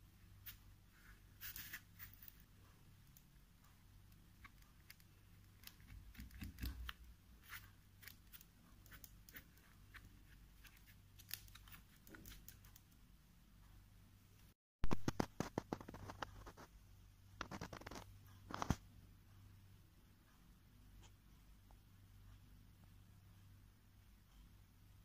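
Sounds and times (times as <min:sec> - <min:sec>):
low steady hum: 0:00.0 - 0:14.6, 0:15.8 - 0:25.0.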